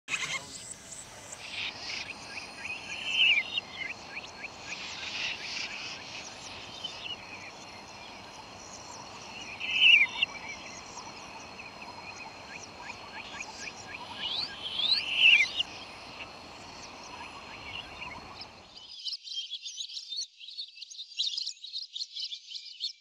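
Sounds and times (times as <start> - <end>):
birds chirping: 0.0 - 18.9
loud bird phrase of rapid notes: 0.1 - 18.5
high-pitched insect drone: 0.1 - 18.7.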